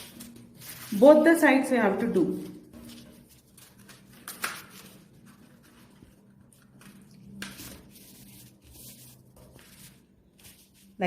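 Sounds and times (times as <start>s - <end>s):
paper crinkles: 0.0s - 1.3s, 2.4s - 11.0s
paper being folded by hand: 0.0s - 11.0s.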